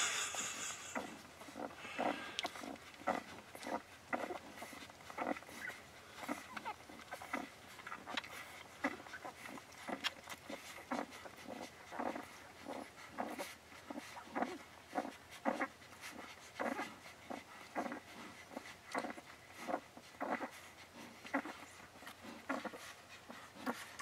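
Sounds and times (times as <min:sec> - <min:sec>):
soft breathy dog sounds: 0:00.0 - 0:24.0.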